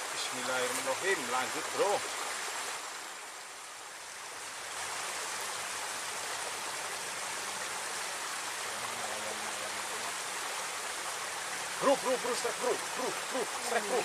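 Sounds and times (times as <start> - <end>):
water rushing down a ditch: 0.0 - 14.0.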